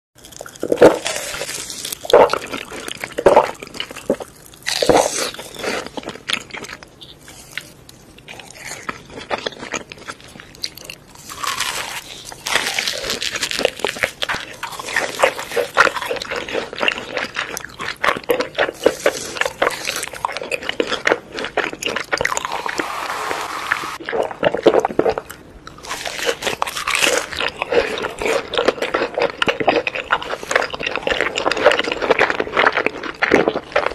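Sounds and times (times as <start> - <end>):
quiet chewing: 0.2 - 22.8, 24.0 - 33.9
crunching crispy snacks: 0.2 - 23.2, 24.0 - 33.9.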